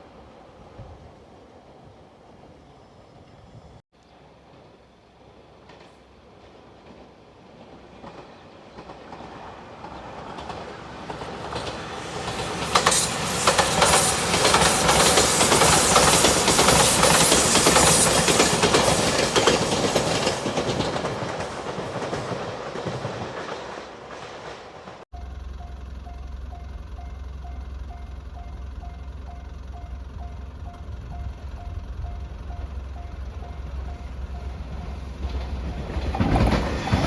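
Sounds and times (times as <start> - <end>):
passenger train passing: 0.0 - 37.0
wheels clacking over rail joints: 5.6 - 37.0.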